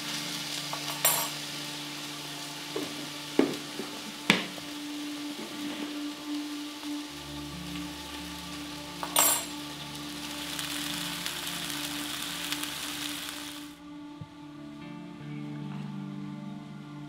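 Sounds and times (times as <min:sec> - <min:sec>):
fish sizzling in oil: 0:00.0 - 0:13.7.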